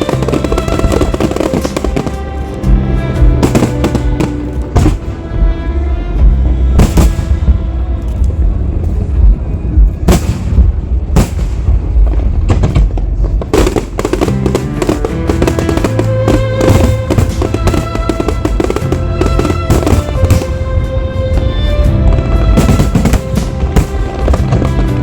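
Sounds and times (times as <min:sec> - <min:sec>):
fireworks bangs and crackles: 0:00.0 - 0:05.5, 0:06.2 - 0:25.0
music playing: 0:00.0 - 0:25.0.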